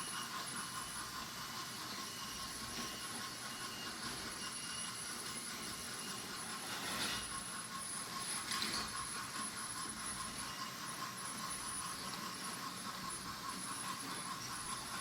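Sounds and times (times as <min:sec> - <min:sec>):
toy train motors whirring: 0:00.0 - 0:15.0.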